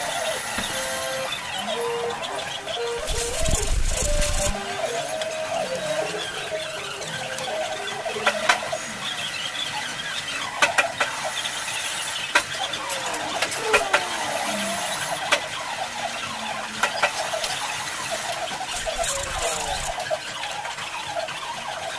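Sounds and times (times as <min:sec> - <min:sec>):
lathe cutting tool squealing: 0:00.0 - 0:21.4.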